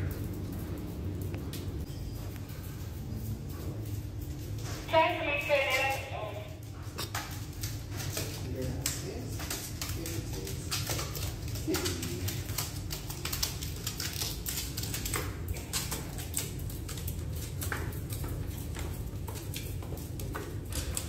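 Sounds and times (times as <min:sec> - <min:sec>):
penguin feet pattering on hard floor: 0:00.0 - 0:21.0.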